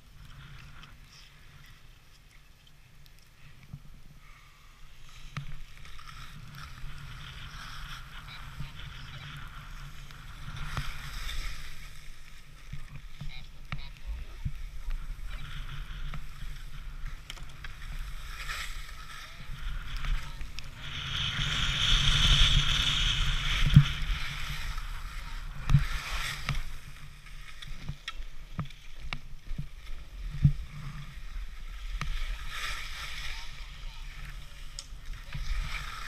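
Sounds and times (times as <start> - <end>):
wind rumbling on microphone: 0.0 - 2.0, 3.0 - 36.0
skis scraping over packed snow: 3.5 - 36.0.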